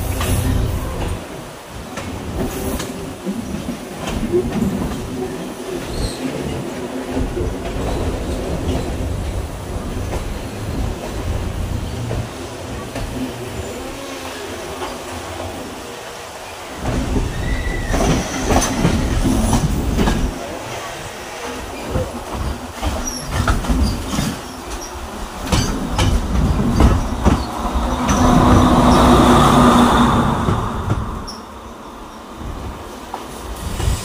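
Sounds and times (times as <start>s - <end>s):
train wheels clattering over joints: 0.0s - 13.9s, 16.7s - 31.5s
train rushing with hum: 0.0s - 34.0s.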